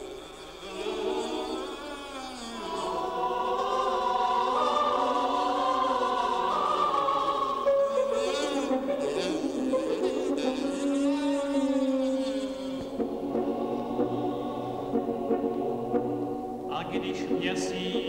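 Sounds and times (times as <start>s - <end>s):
choir singing held notes: 0.0s - 18.0s.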